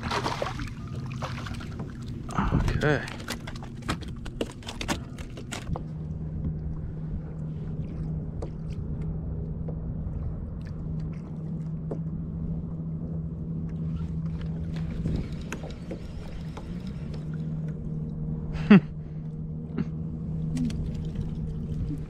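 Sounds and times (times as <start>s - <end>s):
boat engine humming: 0.0s - 22.0s
wind and water rumble: 0.0s - 22.0s.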